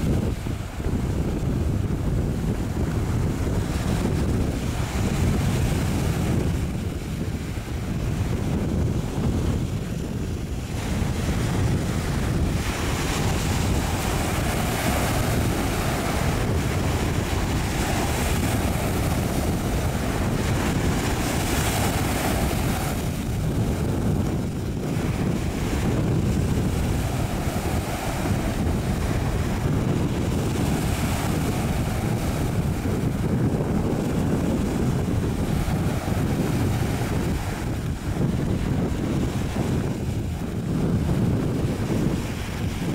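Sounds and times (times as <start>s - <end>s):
waves: 0.0s - 42.9s
wind rumble on microphone: 0.0s - 42.9s.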